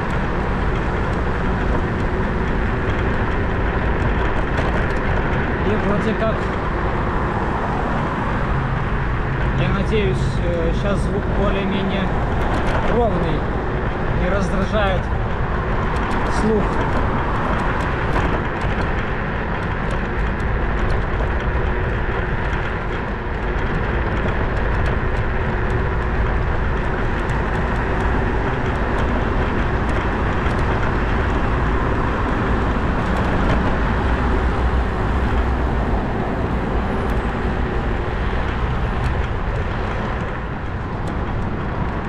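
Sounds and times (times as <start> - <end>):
motorbike running and road noise: 0.0 - 42.0.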